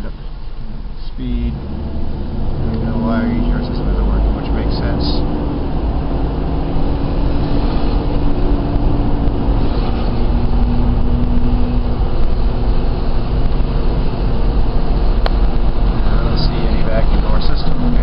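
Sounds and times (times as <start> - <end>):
car engine running: 0.0 - 18.0
road and tyre noise: 0.0 - 18.0.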